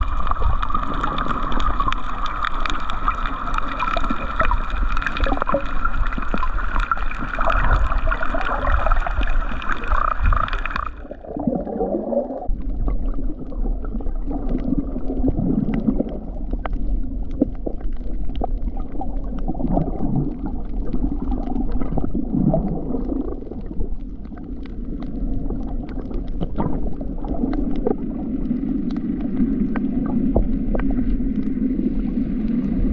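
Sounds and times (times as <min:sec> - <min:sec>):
bubbling gurgles: 0:00.0 - 0:32.9.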